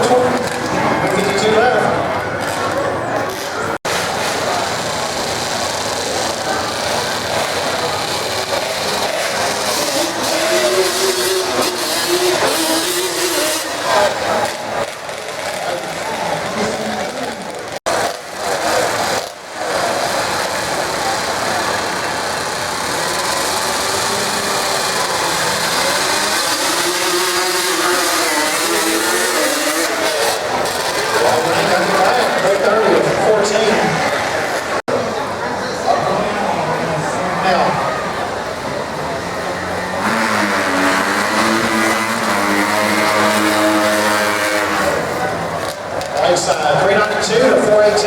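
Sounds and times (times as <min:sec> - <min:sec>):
racing vehicle engines running: 0:00.0 - 0:48.0.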